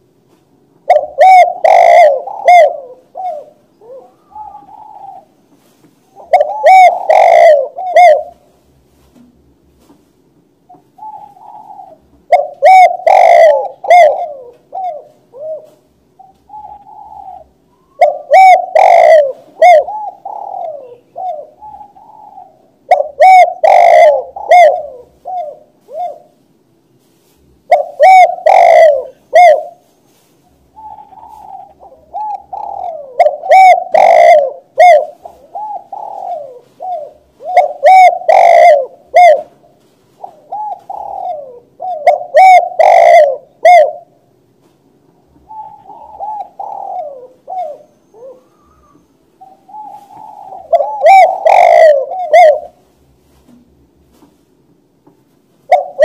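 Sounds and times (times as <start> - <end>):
dove cooing: 0.0 - 9.1, 10.6 - 26.4, 27.6 - 44.4, 45.2 - 53.8, 55.6 - 56.0.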